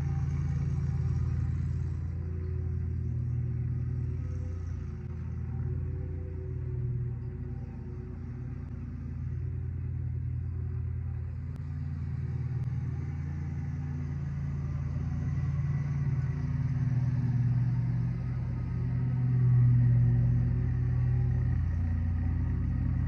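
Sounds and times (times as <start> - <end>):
low rumble with deep hum: 0.0 - 23.0.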